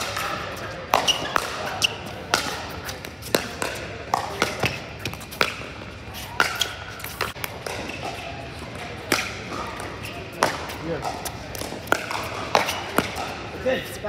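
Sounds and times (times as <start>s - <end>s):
ball bouncing on court: 0.0s - 13.6s.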